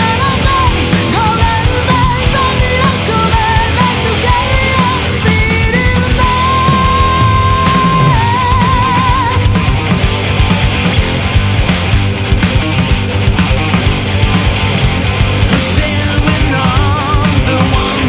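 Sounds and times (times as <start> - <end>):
lead guitar melody with bends: 0.0 - 17.4
heavy metal band playing: 0.0 - 18.0.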